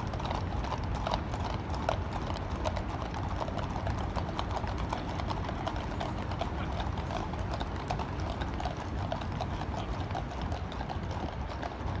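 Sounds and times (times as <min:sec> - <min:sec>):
horse hooves clip-clopping on pavement: 0:00.0 - 0:12.0.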